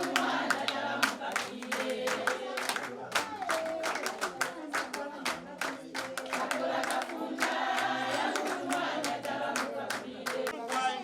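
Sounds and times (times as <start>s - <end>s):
group of voices singing: 0.0s - 11.0s
rhythmic hand clapping: 0.0s - 11.0s.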